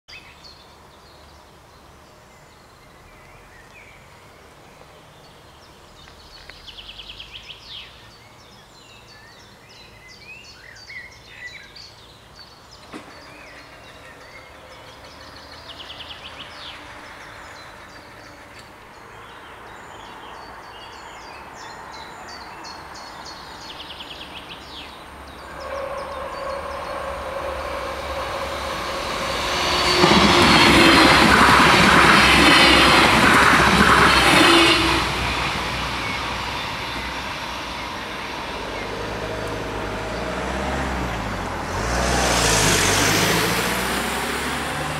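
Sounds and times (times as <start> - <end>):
birds singing: 0.1 - 41.2
diesel railcar approaching: 0.2 - 44.9.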